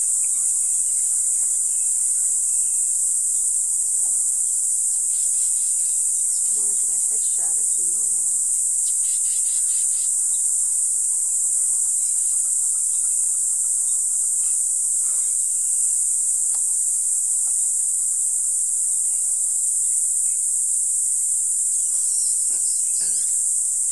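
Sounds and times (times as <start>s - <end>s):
high-pitched insect chorus: 0.0s - 23.9s.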